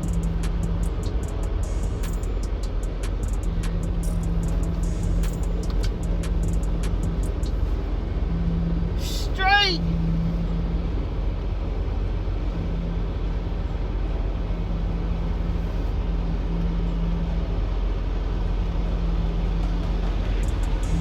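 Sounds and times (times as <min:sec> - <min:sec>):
low hum: 0:00.0 - 0:21.0
truck diesel engine rumbling: 0:00.0 - 0:21.0.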